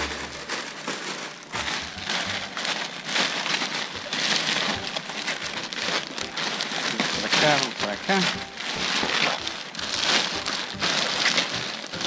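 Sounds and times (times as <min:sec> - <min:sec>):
plastic bag of balls rustling: 0:00.0 - 0:12.0.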